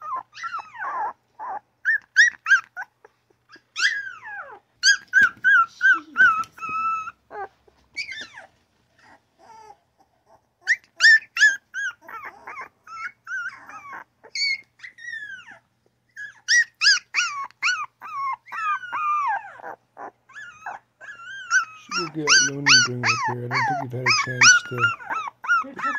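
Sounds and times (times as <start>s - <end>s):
puppies whining and yipping: 0.0s - 25.9s.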